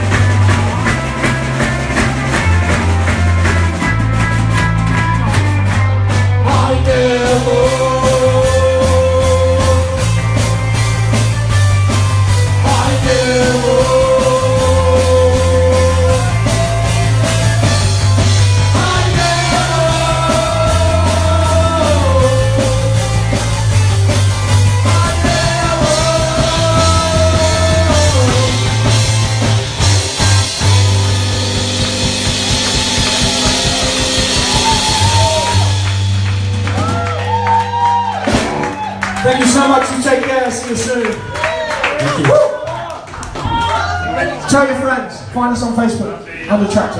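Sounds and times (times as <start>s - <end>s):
sliding lead guitar notes: 0.0s - 39.2s
drum beat: 0.0s - 40.8s
bass guitar figure: 0.0s - 41.0s.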